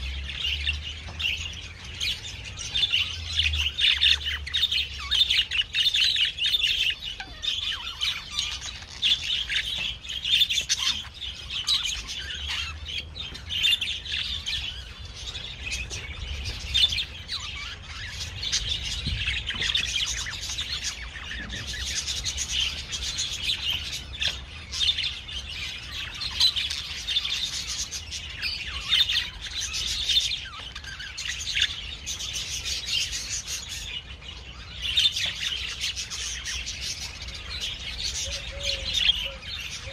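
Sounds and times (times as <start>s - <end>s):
parrots chirping: 0.0s - 39.9s.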